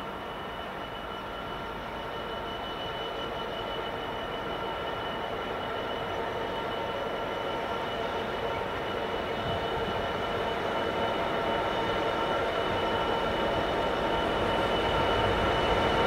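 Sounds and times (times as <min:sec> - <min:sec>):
diesel locomotive engine whine: 0:00.0 - 0:16.0.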